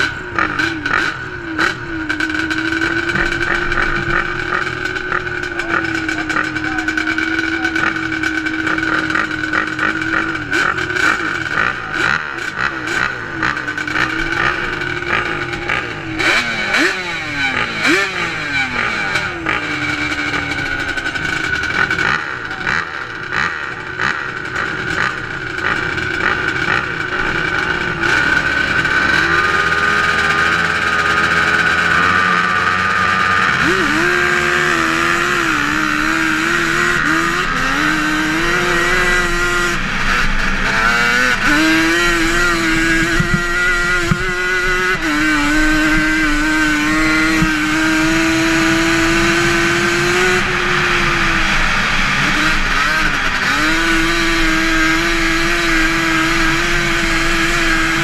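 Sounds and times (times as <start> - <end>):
two-stroke engine racing: 0.0 - 58.0.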